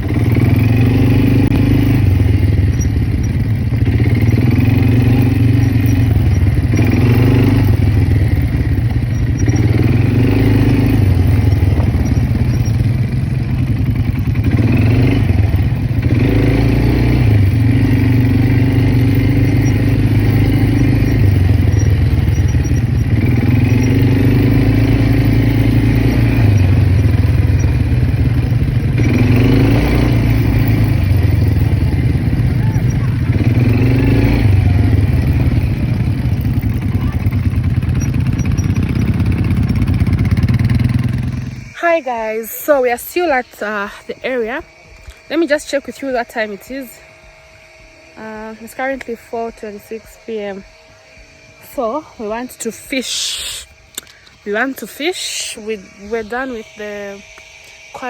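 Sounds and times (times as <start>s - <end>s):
quad bike engine accelerating: 0.0s - 58.0s.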